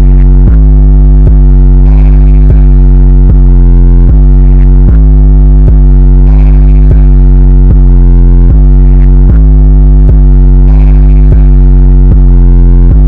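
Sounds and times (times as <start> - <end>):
deep steady bass: 0.0 - 13.0
distorted synthesizer line: 0.0 - 13.0.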